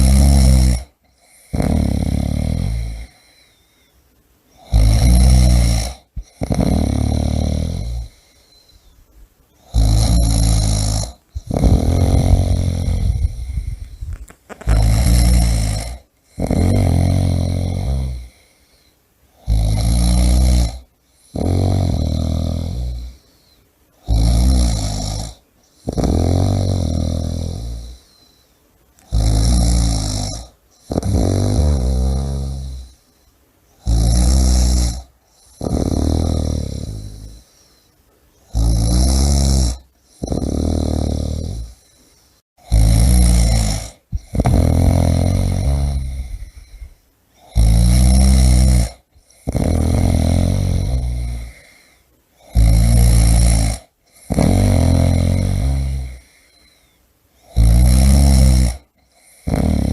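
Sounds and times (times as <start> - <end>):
person snoring: 0.0 - 3.7, 4.6 - 9.0, 9.6 - 28.4, 29.0 - 33.1, 33.8 - 37.9, 38.5 - 59.9.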